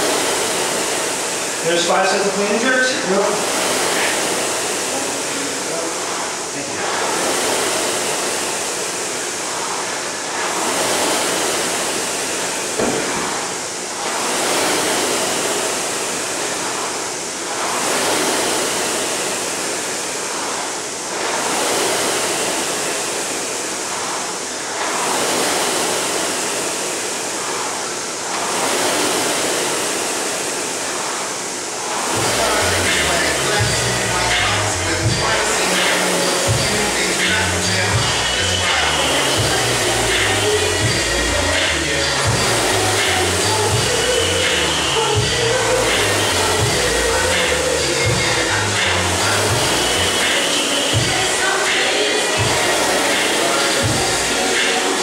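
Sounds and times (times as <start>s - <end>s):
rowing machine fan whooshing: 0.0s - 55.0s.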